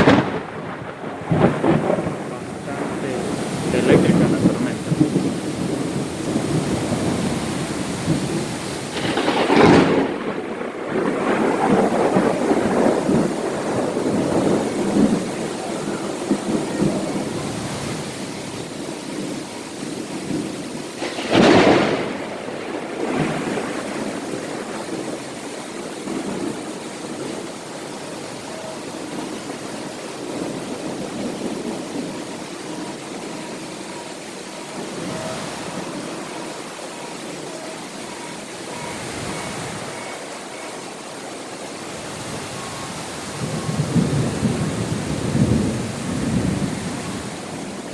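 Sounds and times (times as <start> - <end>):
heavy rain falling: 0.0 - 47.9
thunderclap: 0.0 - 47.9.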